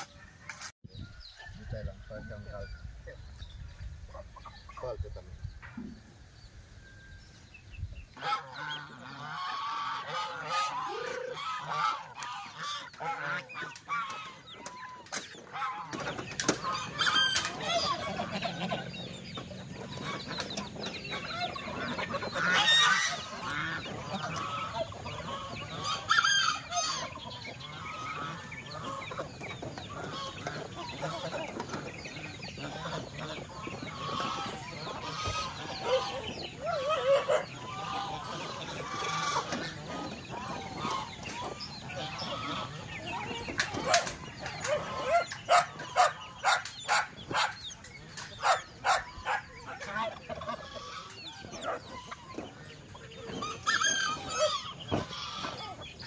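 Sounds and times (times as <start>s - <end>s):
ducks and chickens calling: 0.0s - 56.0s.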